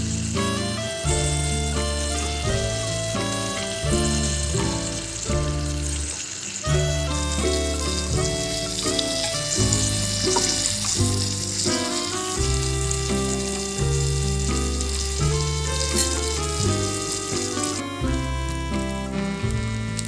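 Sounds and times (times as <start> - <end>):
spoon basting in a wok: 0.0 - 17.9
background music with deep bass: 0.0 - 20.0
hot oil sizzling: 0.0 - 20.0.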